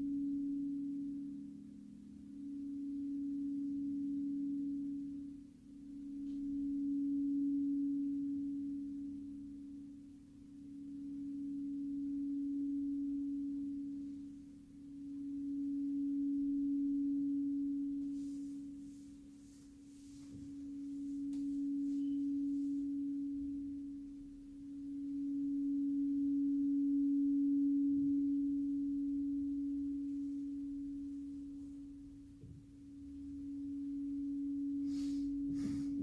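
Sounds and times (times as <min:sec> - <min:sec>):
crystal singing bowl tone: 0:00.0 - 0:36.0.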